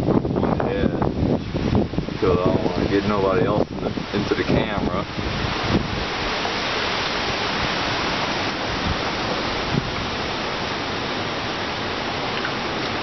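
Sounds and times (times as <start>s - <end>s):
rain: 0.0s - 13.0s
storm wind: 0.0s - 13.0s.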